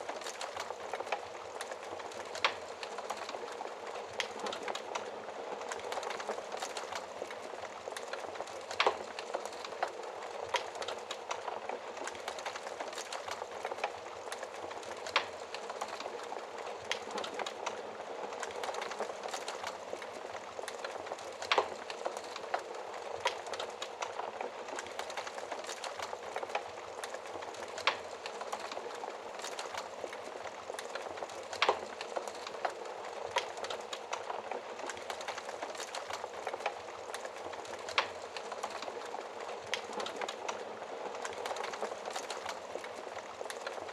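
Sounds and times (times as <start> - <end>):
wood fire crackling: 0.0 - 43.9
burning logs popping: 0.1 - 43.9.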